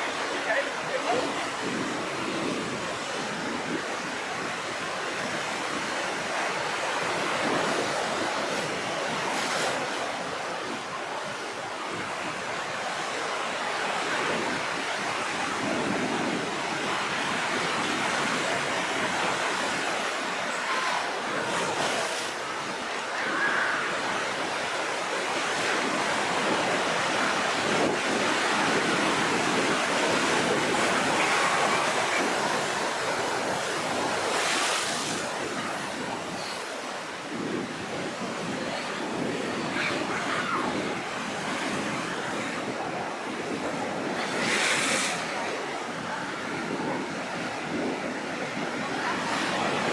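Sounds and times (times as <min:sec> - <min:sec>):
waves breaking: 0:00.0 - 0:49.9
wind: 0:00.0 - 0:49.9.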